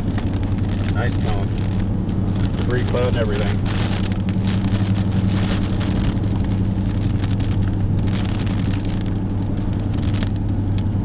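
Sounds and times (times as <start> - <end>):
car engine droning: 0.0 - 11.0
rain ticking on car: 0.0 - 11.0.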